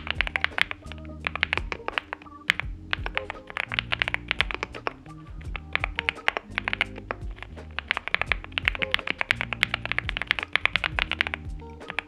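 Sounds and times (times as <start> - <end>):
background music with low notes: 0.0 - 12.0.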